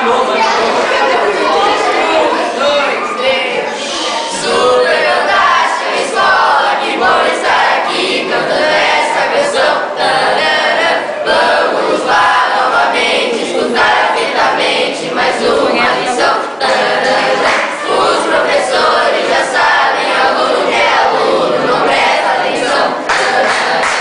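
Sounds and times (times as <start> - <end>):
young voices singing together: 0.0 - 24.0.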